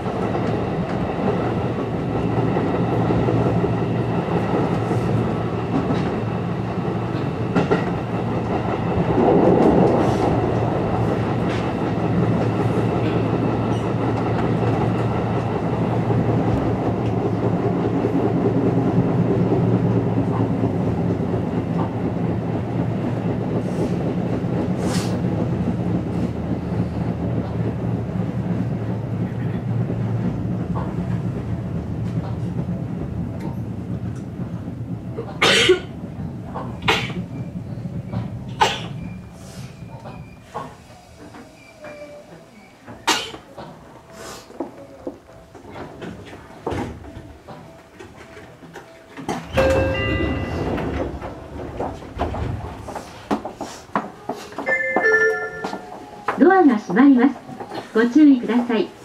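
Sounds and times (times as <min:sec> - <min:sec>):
rail joint clacks: 0:00.0 - 0:59.0
train wheels and motors rumbling: 0:00.0 - 0:59.0.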